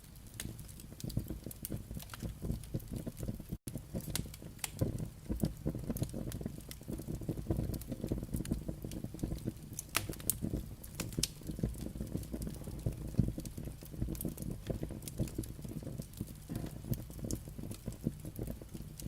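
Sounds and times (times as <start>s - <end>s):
firewood crackling and popping: 0.0s - 19.0s
low rumble of flame: 0.0s - 19.0s.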